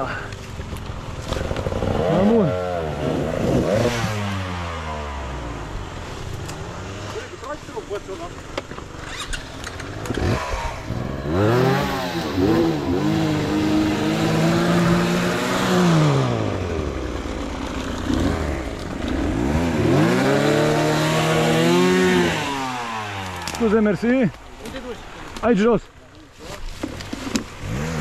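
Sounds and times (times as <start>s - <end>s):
dirt bike engine revving: 1.1s - 8.0s, 8.8s - 25.2s, 27.1s - 28.0s.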